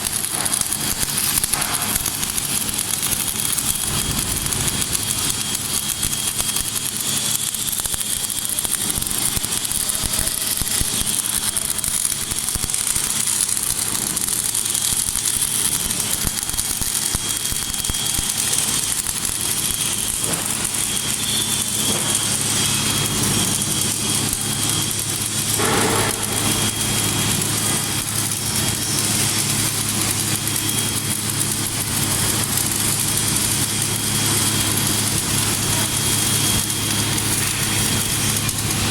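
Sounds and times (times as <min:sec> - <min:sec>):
welding hiss: 0:00.0 - 0:38.9
welding machine humming: 0:00.0 - 0:38.9.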